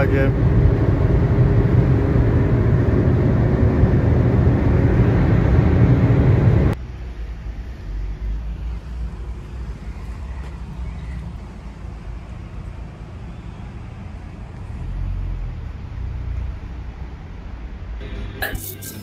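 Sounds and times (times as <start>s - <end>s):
car cabin engine and road drone: 0.0s - 19.0s
passing traffic: 0.0s - 19.0s.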